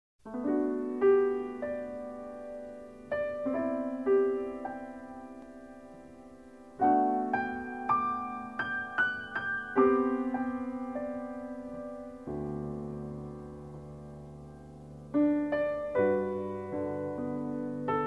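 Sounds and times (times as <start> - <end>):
piano music: 0.2 - 18.0.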